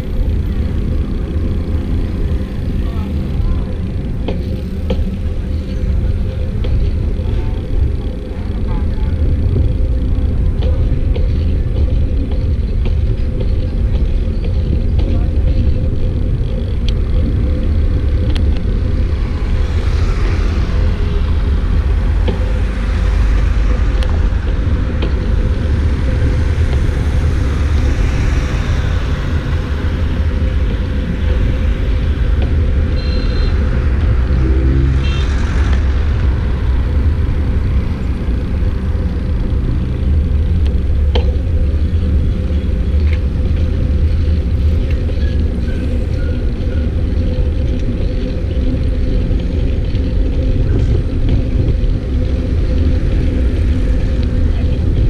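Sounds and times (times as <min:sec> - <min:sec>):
vehicles passing: 0:00.0 - 0:55.0
wind and road noise: 0:00.0 - 0:55.0.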